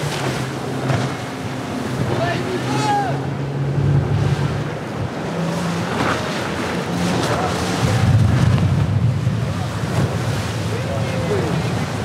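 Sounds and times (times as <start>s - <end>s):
hull and spray rushing: 0.0s - 12.0s
motorboat engine hum: 0.0s - 12.0s.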